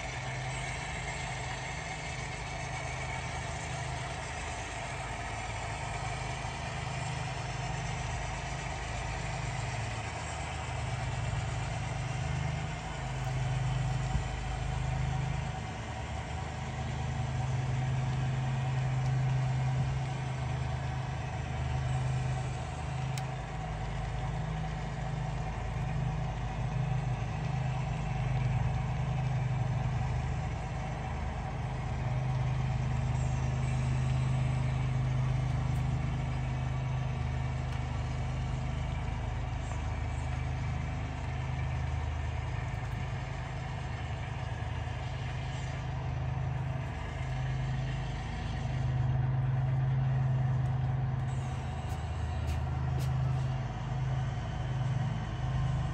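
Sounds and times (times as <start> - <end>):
model diesel locomotive engine: 0.0 - 55.9.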